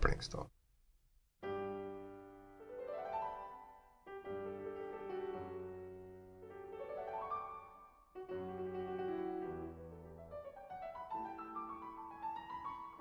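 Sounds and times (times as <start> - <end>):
piano music: 1.4 - 13.0.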